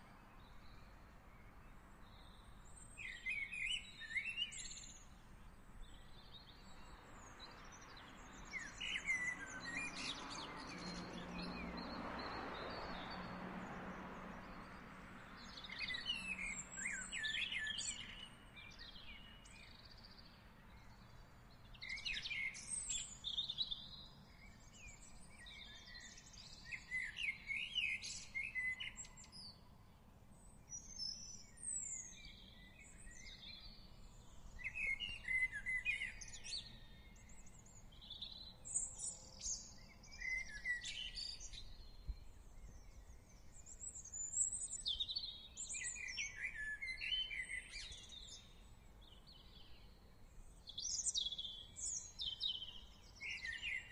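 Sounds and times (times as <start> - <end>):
faint low background noise: 0.0 - 53.9
songbirds singing and calling: 0.0 - 53.9.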